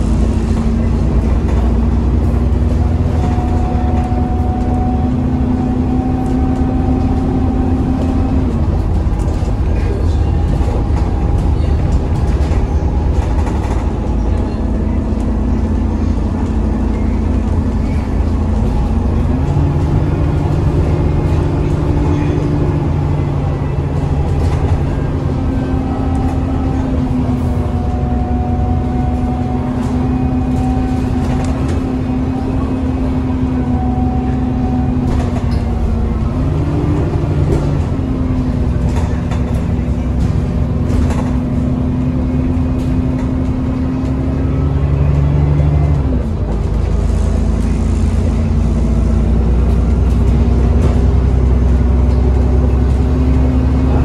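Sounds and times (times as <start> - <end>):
bus engine drone with whine: 0.0 - 54.0
deep rumble: 0.0 - 54.0.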